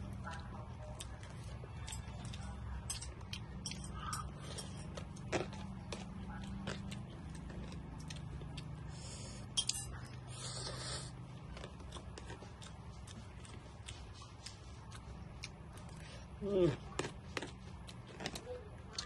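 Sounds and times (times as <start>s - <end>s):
chewing noises: 0.0s - 19.0s
low steady hum: 0.0s - 19.0s.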